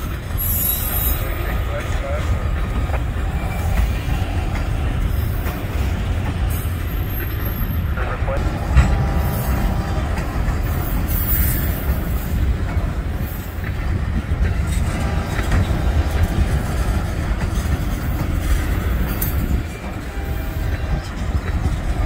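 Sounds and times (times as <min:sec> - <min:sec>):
train wheels rumbling on rails: 0:00.0 - 0:22.0
wheels clicking over rail joints: 0:00.0 - 0:22.0.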